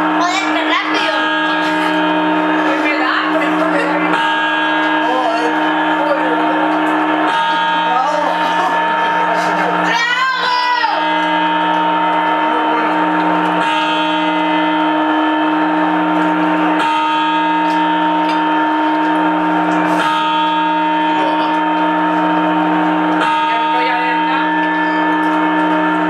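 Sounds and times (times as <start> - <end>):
clock bell striking: 0.0 - 26.0.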